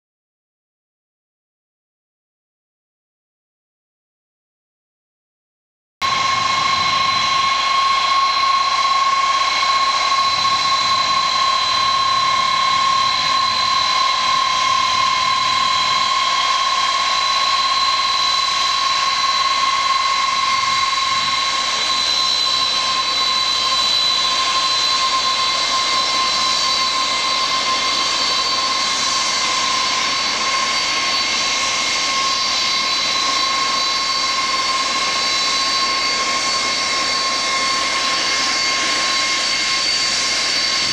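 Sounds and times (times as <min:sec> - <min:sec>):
jet engines whining: 0:06.0 - 0:40.9.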